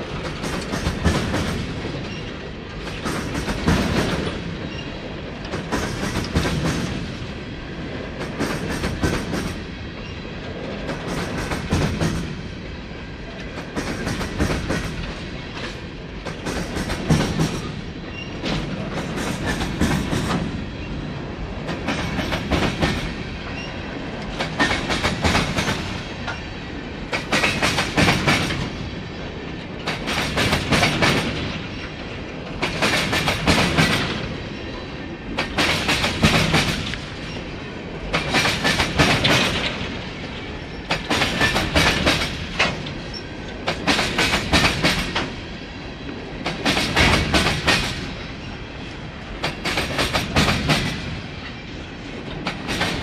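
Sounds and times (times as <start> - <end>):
steady train rumble: 0.0 - 53.0
train wheels clacking on rail joints: 0.0 - 53.0.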